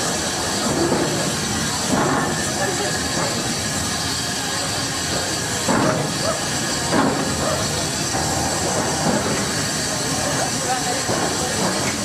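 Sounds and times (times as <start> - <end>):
locomotive exhaust beats: 0.0 - 12.0
steam locomotive hissing: 0.0 - 12.0.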